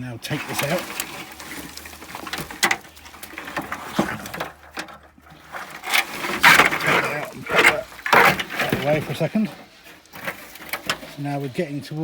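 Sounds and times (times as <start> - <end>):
scraping and rustling in soil: 0.0 - 12.0.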